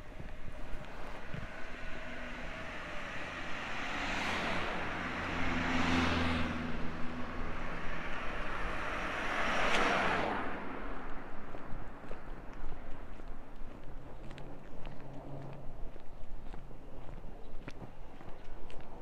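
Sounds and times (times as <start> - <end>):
vehicles passing on a road: 0.0 - 19.0.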